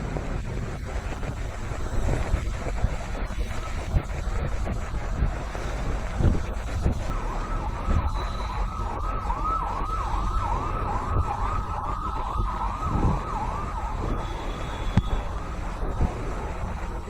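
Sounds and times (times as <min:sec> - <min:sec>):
road traffic rumble: 0:00.0 - 0:17.0
emergency siren sweeping: 0:01.0 - 0:17.0.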